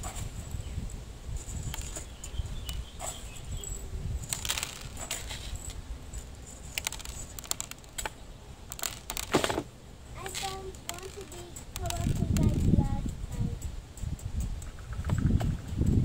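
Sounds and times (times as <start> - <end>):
gravel clicking and rattling: 0.0 - 16.0.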